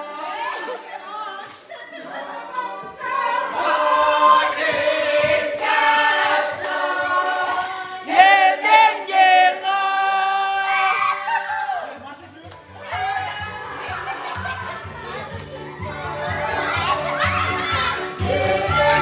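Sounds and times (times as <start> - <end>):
group singing in harmony: 0.0 - 10.6, 13.5 - 19.0.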